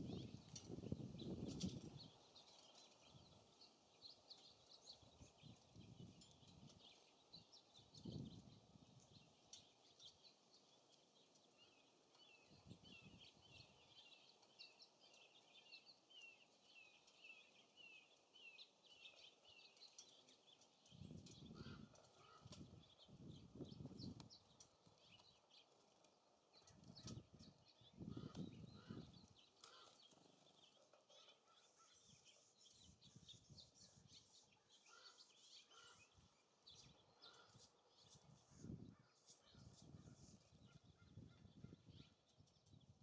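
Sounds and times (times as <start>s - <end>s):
small songbirds chirping: 0.0s - 43.0s.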